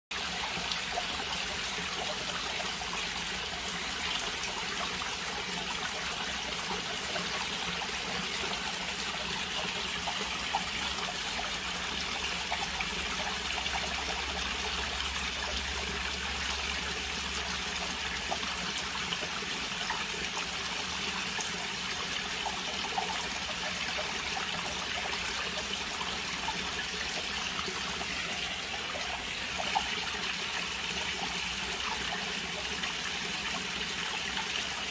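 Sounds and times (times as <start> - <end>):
water trickling into a pond: 0.1 - 34.9.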